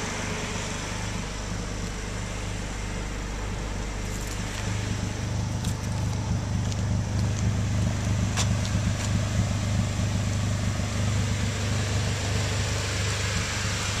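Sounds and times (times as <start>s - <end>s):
four-cylinder engine running: 0.0s - 14.0s.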